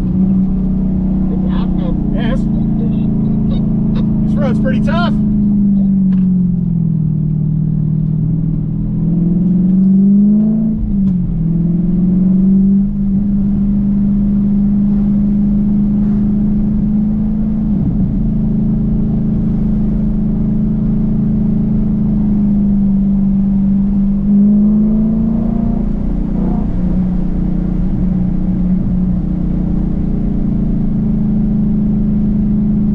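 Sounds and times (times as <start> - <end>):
car engine and exhaust: 0.0 - 32.9.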